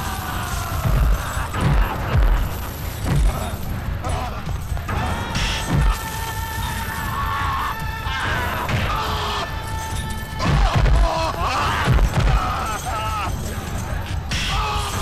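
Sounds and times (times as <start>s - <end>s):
dramatic background score: 0.0s - 15.0s.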